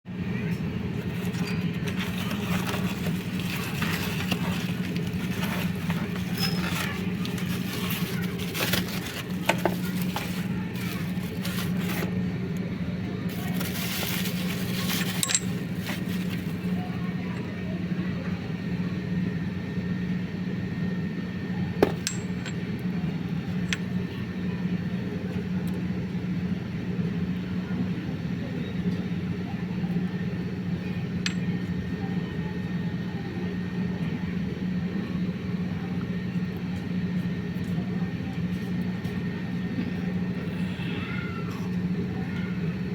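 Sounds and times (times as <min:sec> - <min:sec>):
steady low hum: 0:00.1 - 0:42.9.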